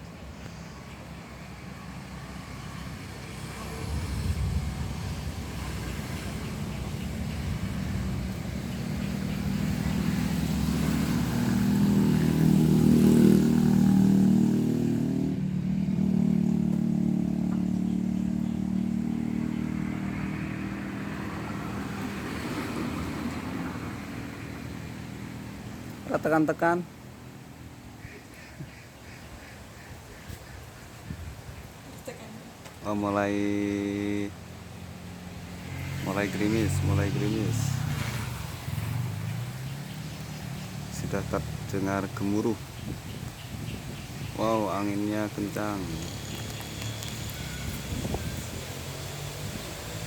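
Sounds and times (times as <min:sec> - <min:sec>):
vehicle engine passing: 0:01.5 - 0:27.8, 0:33.5 - 0:50.0.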